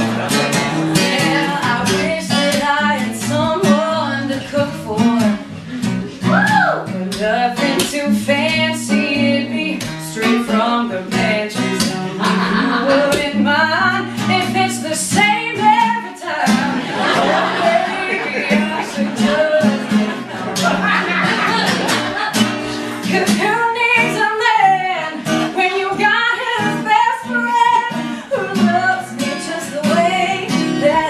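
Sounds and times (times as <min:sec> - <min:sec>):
acoustic guitar strumming: 0:00.0 - 0:31.0
woman singing: 0:00.8 - 0:20.3, 0:22.9 - 0:31.0.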